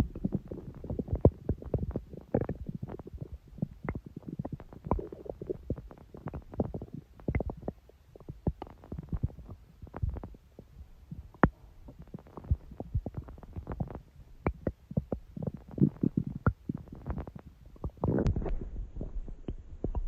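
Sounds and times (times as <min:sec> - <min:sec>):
stomach gurgling: 0:00.0 - 0:20.0.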